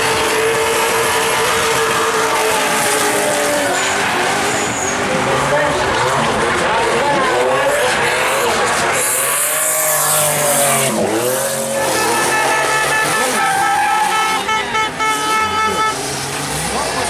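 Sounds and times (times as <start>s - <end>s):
car engines revving: 0.0s - 17.0s
tyres squealing on tarmac: 0.0s - 17.0s.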